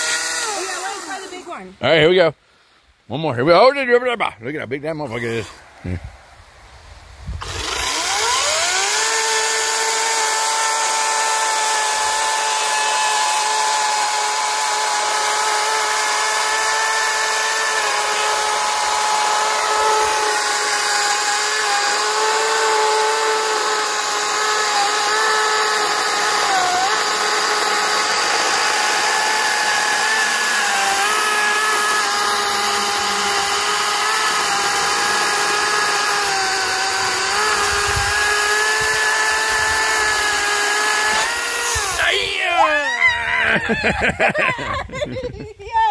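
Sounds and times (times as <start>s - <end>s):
electric chainsaw cutting log: 0.0s - 1.6s, 7.4s - 44.7s.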